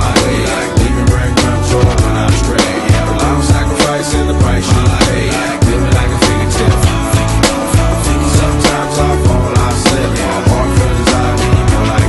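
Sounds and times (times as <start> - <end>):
hip-hop beat with guitar and bass: 0.0 - 12.0.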